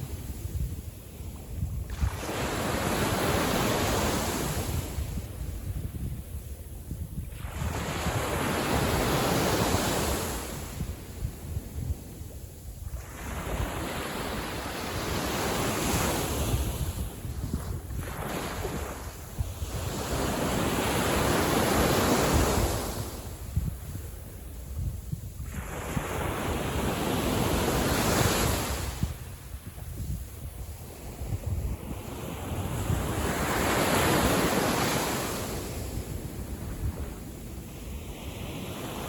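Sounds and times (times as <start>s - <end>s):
small waves washing on beach: 0.0s - 39.0s
wind buffeting microphone: 0.0s - 39.0s.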